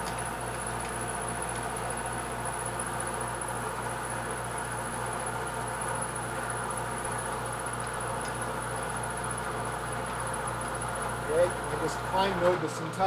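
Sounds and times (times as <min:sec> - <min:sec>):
milling machine hum: 0:00.0 - 0:13.0.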